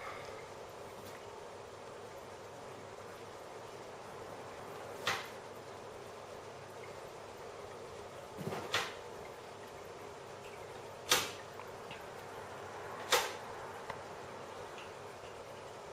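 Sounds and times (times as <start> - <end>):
steady low hiss: 0.0 - 15.9.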